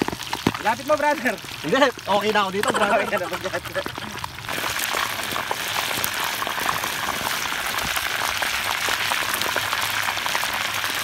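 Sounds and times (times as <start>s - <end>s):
meat deep-frying in oil: 0.0s - 11.0s.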